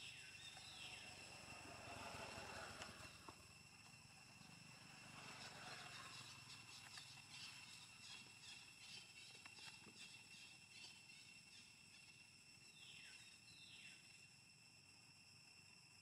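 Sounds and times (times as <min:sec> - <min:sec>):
high buzz of insects: 0:00.0 - 0:16.0.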